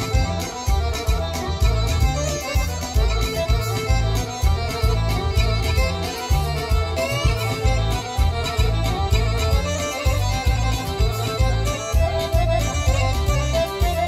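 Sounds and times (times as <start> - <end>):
folk dance music: 0.0 - 14.0.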